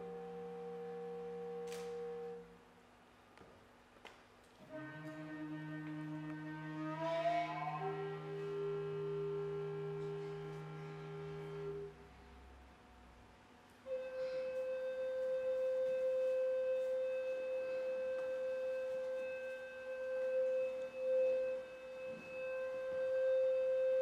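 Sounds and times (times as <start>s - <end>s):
high wind instrument tone: 0.0s - 2.6s, 4.6s - 12.1s, 13.8s - 24.0s.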